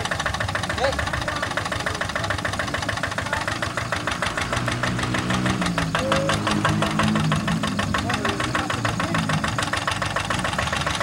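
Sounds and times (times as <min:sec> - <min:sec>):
diesel engine knocking: 0:00.0 - 0:11.0.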